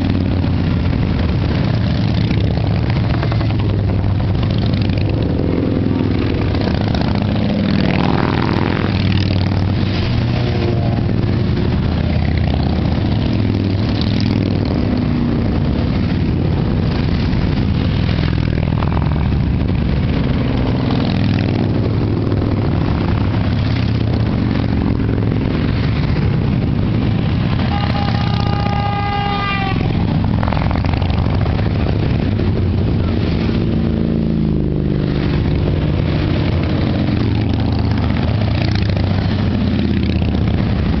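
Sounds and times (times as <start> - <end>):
motorcycle engines rumbling and revving: 0.0 - 41.0.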